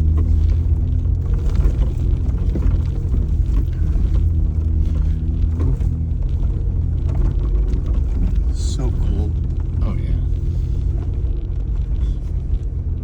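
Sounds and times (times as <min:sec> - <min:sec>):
engine rumbling under load: 0:00.0 - 0:13.0.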